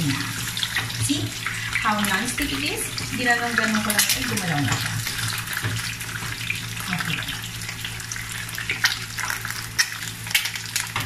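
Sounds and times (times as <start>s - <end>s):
egg sizzling in a frying pan: 0.0s - 11.0s.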